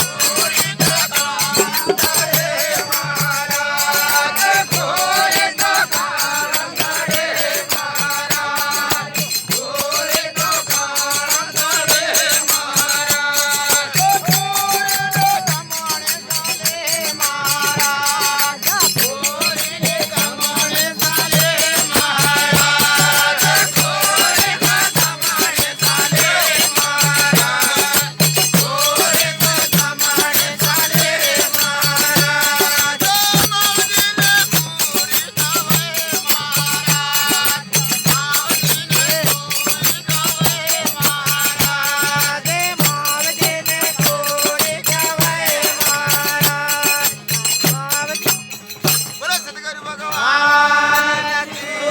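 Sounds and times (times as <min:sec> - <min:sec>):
jingling percussion: 0:00.0 - 0:51.9.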